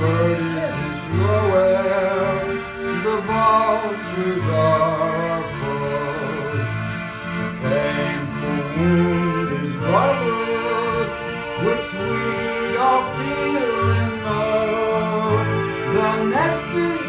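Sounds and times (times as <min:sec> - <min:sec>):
accordion playing slow tune: 0:00.0 - 0:17.0
man singing with vibrato: 0:00.0 - 0:17.0.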